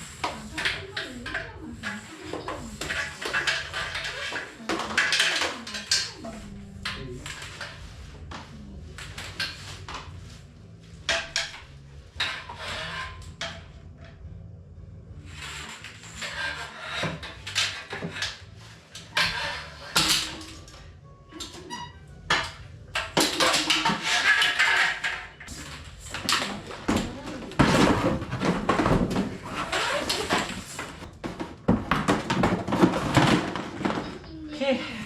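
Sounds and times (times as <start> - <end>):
objects scraping off a wall: 0.0 - 13.8, 15.1 - 34.3.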